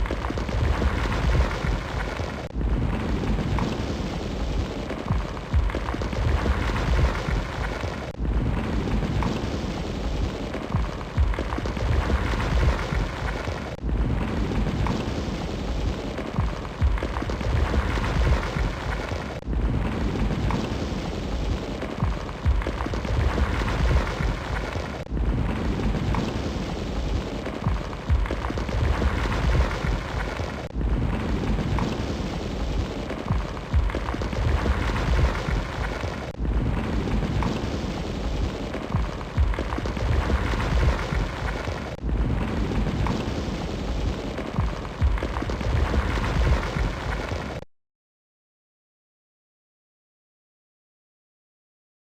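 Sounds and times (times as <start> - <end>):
fire crackling and popping: 0.0 - 47.6.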